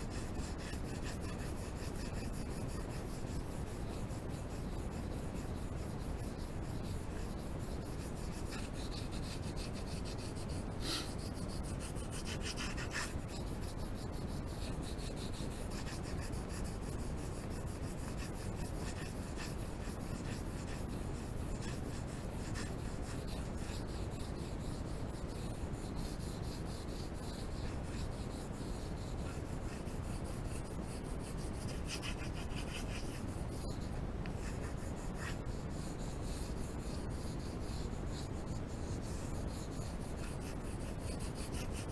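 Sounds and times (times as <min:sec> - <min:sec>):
pencil scratching on paper: 0:00.0 - 0:41.9.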